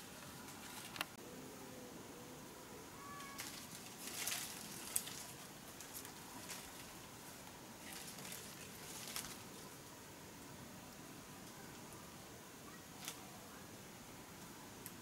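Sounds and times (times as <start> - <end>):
leaves and branches rustling: 0.0 - 15.0.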